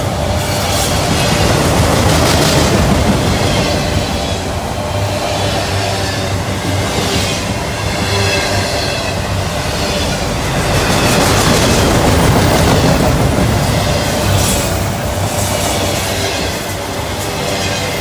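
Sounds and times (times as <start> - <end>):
freight cars rumbling on rails: 0.0 - 18.0.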